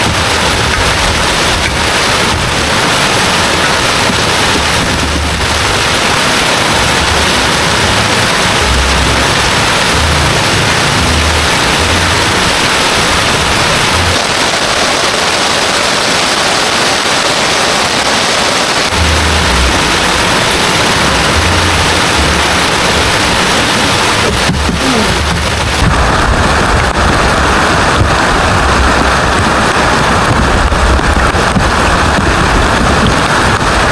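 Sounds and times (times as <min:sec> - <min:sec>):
low rumbles: 0:00.0 - 0:15.4, 0:18.9 - 0:33.9
heavy rain pouring: 0:00.0 - 0:33.9.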